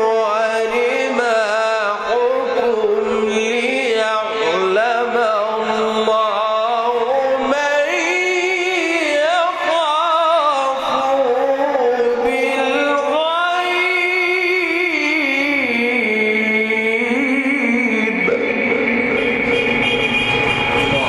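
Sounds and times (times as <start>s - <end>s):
man chanting recitation: 0.0s - 19.5s.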